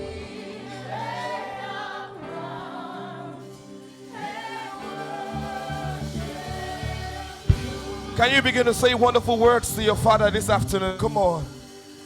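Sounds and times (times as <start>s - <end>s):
congregation and choir singing: 0.0s - 12.0s
soft instrumental accompaniment: 0.0s - 12.0s.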